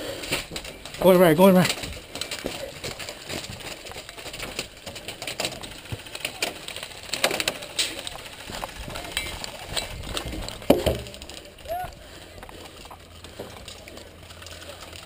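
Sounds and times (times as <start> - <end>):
rifle and gear clicking and rattling: 0.0 - 15.0.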